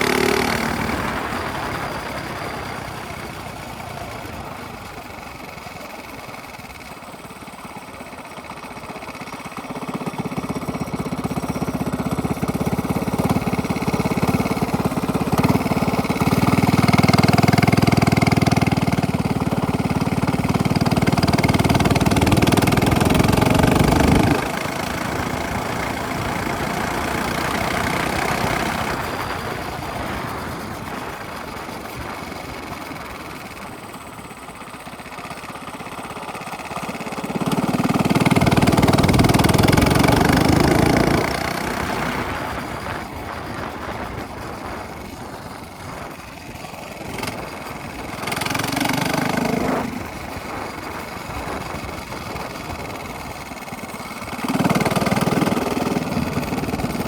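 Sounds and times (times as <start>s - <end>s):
minibike engine running: 0.0s - 57.0s.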